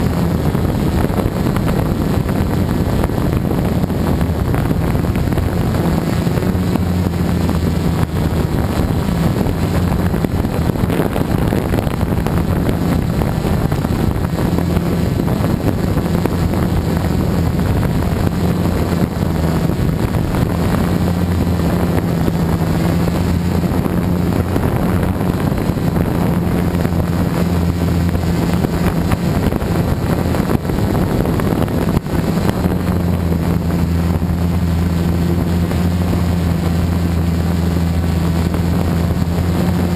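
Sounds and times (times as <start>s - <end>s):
drone motors humming: 0.0s - 39.9s
wind rushing over microphone: 0.0s - 39.9s.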